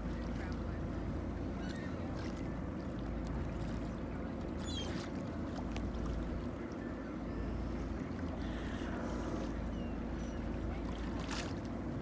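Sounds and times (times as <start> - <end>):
boat engine rumble: 0.0 - 12.0
water noise: 0.0 - 12.0
wind: 0.0 - 12.0.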